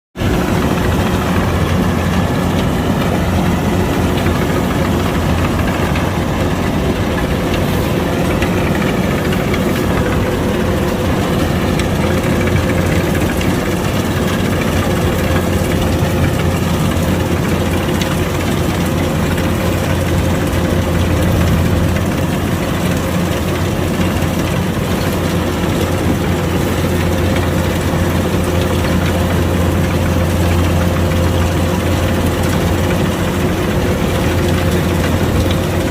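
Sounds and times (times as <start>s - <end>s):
combine harvester engine running: 0.2s - 35.9s.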